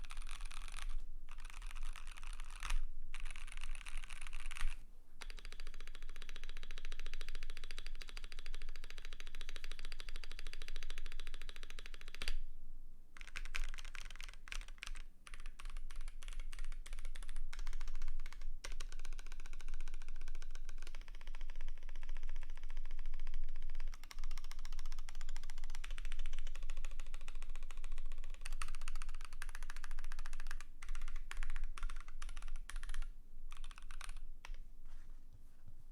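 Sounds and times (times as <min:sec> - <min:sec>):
mechanical keyboard typing: 0:00.0 - 0:12.4, 0:13.2 - 0:34.6.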